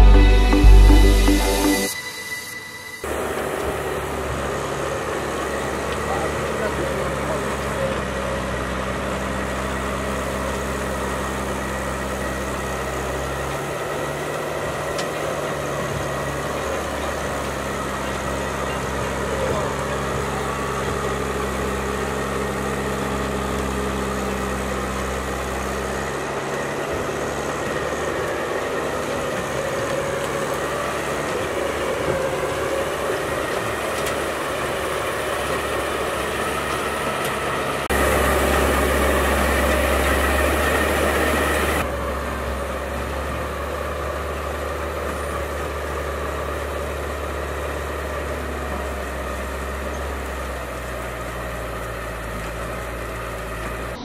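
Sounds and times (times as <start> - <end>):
tractor engine running: 0.0 - 2.0, 3.0 - 54.0
grinder shredding roots: 3.1 - 53.8.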